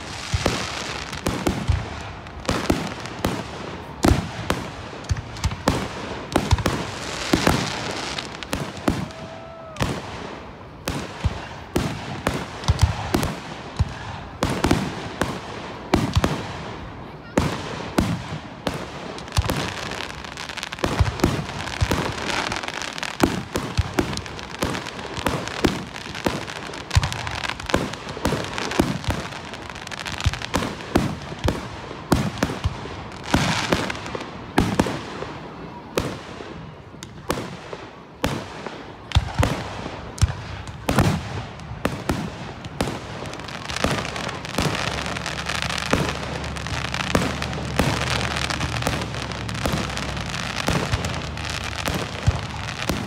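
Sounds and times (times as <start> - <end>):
fireworks bangs: 0.0 - 53.0
fireworks crackling hiss: 0.0 - 53.0.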